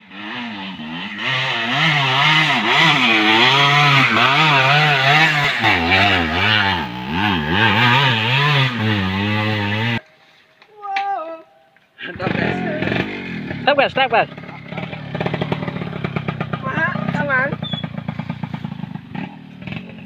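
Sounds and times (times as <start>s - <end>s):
small engine revving: 0.0s - 10.0s, 12.0s - 20.0s.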